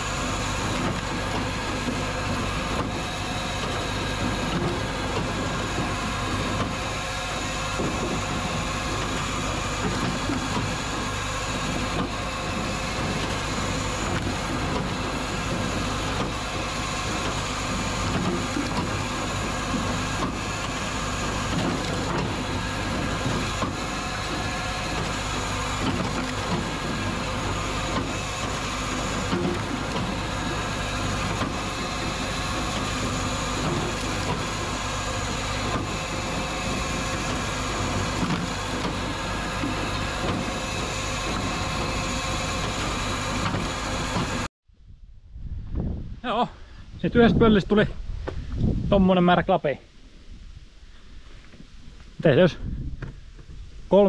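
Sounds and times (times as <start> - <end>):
firewood processor droning: 0.0 - 44.5.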